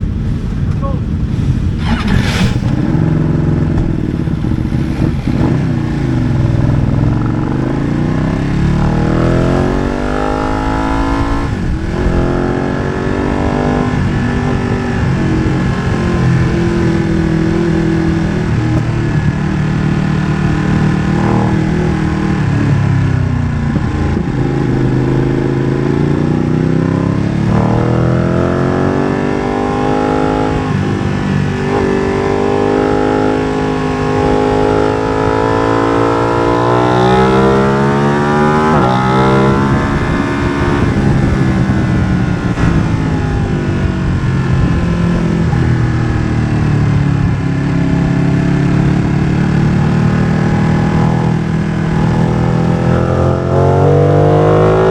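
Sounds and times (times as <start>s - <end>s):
motorcycle engine revving: 1.0s - 54.9s.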